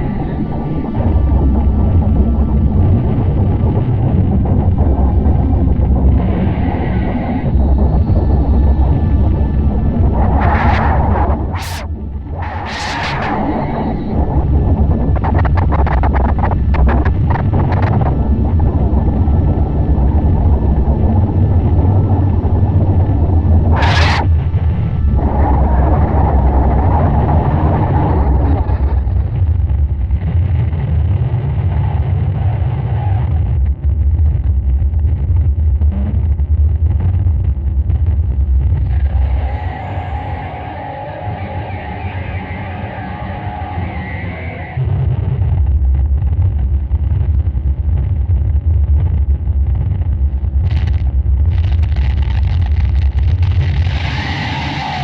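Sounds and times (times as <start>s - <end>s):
harsh noise drone music: 0.0s - 33.6s, 37.0s - 55.0s
heavy low rumble: 0.0s - 55.0s.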